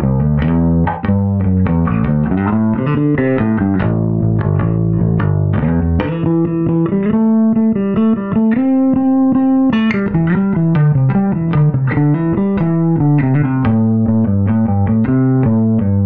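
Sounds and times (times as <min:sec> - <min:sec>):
electric bass guitar plucked notes: 0:00.0 - 0:16.0.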